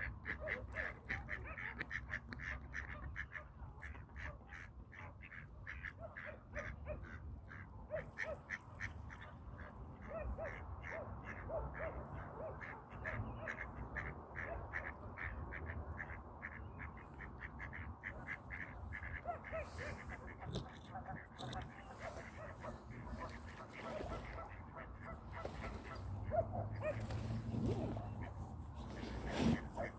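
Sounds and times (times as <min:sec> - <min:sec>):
lower arched duck calls: 0:00.0 - 0:27.0
ducks quacking: 0:00.0 - 0:29.9.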